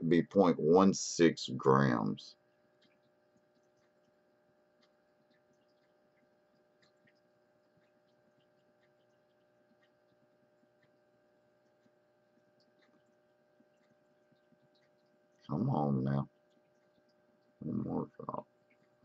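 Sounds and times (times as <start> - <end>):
faint electrical hum: 0.0 - 19.0
faint tiny ticks: 2.4 - 19.0.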